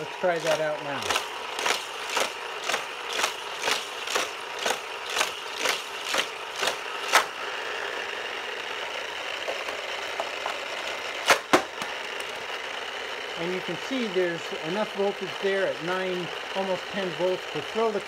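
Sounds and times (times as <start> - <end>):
toy car zipping through spinning wheels: 0.0 - 17.9
toy track booster motor whirring: 0.0 - 18.0.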